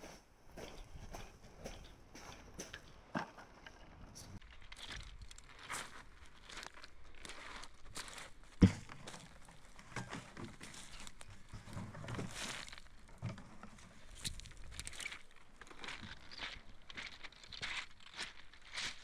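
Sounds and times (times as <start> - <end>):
rustling and crunching handling: 0.7 - 19.0.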